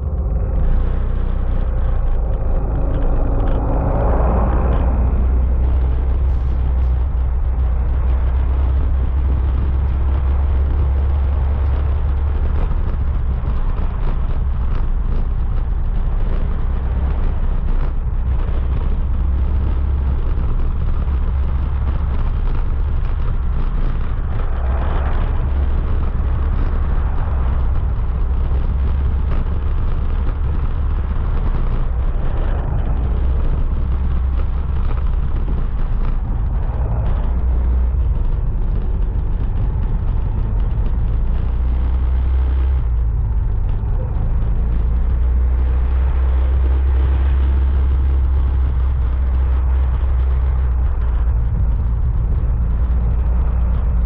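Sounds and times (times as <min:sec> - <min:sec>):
motorcycle engine and road noise: 0:00.0 - 0:54.0
wind rushing over microphone: 0:00.0 - 0:54.0.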